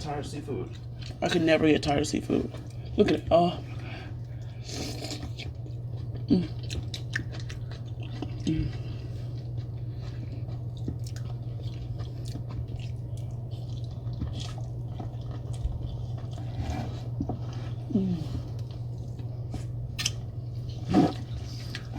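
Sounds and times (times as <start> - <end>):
steady low hum: 0.0 - 21.9
chewing and wet mouth sounds: 0.2 - 21.9.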